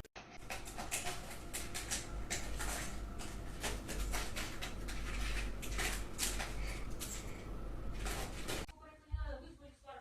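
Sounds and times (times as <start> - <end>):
rustling and tapping: 0.3 - 8.7.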